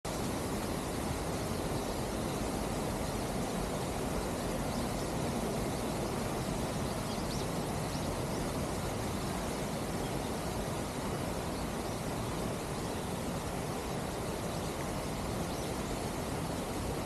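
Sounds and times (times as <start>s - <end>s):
constant hiss: 0.1s - 17.0s.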